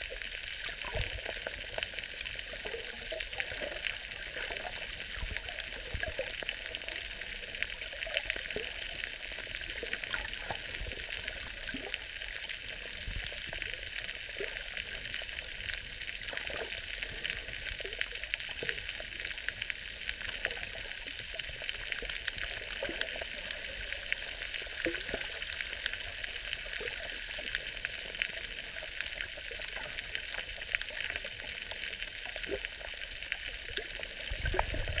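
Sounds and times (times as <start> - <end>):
faint underwater clicks: 0.0 - 35.0
underwater crackling hiss: 0.0 - 35.0.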